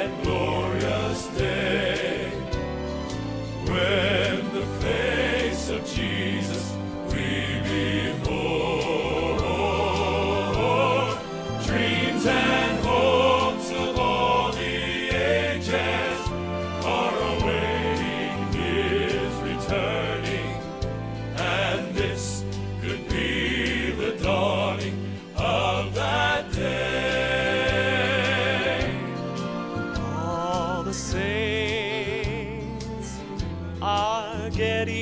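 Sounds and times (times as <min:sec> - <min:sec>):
bass line: 0:00.0 - 0:35.0
male vocal quartet singing gospel: 0:00.0 - 0:35.0.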